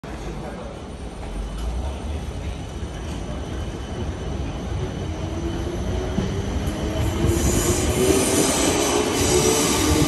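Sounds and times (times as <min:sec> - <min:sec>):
train wheels rumbling: 0:00.2 - 0:10.0.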